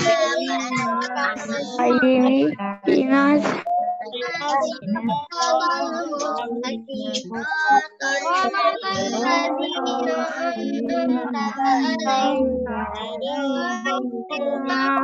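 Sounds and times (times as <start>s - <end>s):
children and woman chanting prayer: 0.0s - 15.0s.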